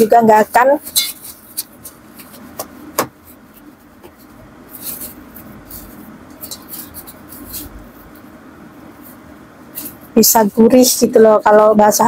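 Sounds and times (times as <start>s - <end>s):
paper towels rustling and crinkling: 0.0s - 12.0s.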